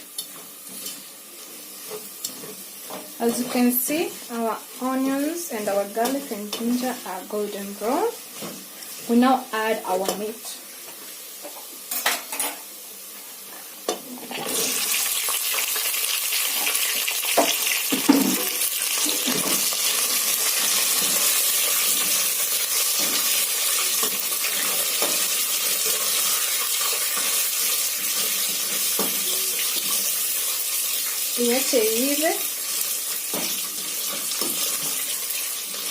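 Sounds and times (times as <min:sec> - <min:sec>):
meat sizzling in hot oil: 0:00.0 - 0:35.9.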